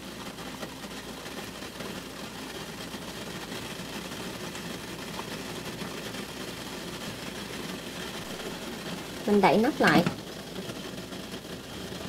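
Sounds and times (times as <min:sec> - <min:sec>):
steamer rumble and hiss: 0:00.0 - 0:12.0.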